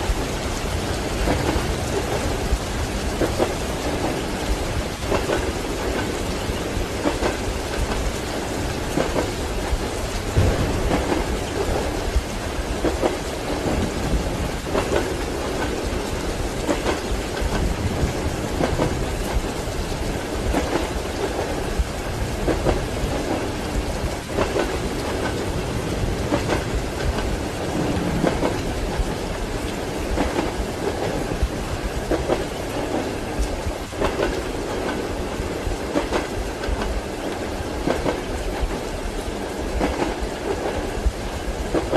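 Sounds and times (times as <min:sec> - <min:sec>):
heavy rain: 0:00.0 - 0:41.9
thunder rumbling: 0:00.0 - 0:41.9
train wheels clacking over rail joints: 0:00.1 - 0:31.4, 0:32.0 - 0:41.0, 0:41.6 - 0:41.9.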